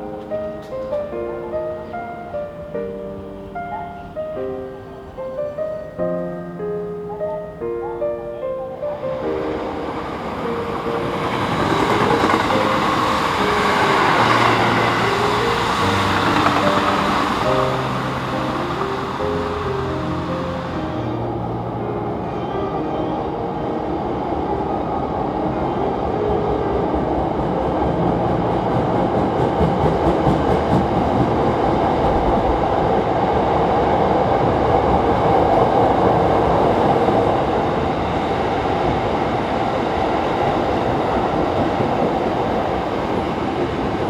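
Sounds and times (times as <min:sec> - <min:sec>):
electric train rail rumble: 0:00.0 - 0:22.2, 0:23.6 - 0:44.0.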